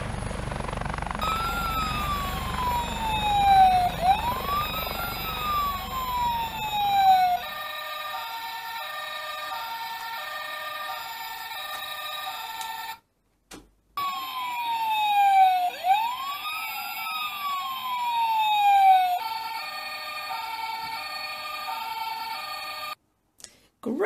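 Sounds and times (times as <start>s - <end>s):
wailing siren: 0.0s - 13.0s, 14.0s - 23.0s
electronic two-tone toy siren: 0.8s - 13.0s, 14.0s - 23.0s.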